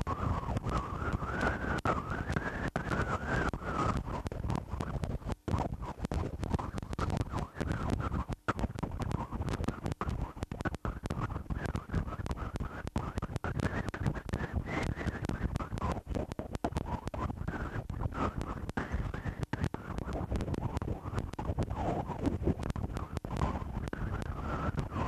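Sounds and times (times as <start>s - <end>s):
crackling wind on microphone: 0.0s - 25.0s.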